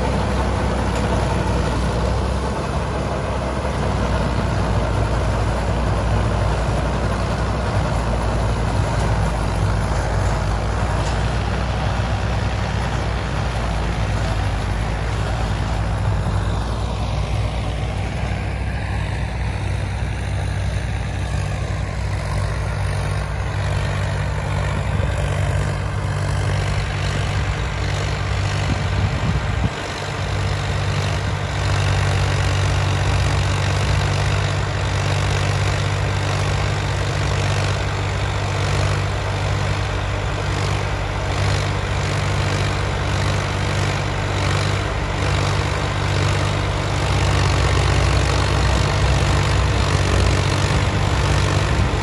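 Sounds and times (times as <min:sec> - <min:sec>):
tractor engine running under load: 0:00.0 - 0:52.0.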